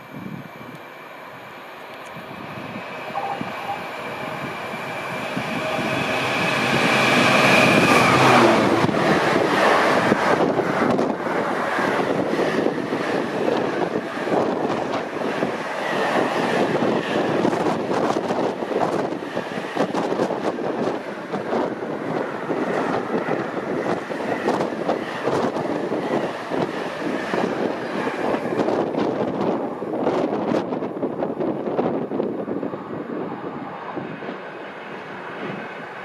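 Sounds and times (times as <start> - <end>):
diesel locomotive passing: 0.0 - 36.0.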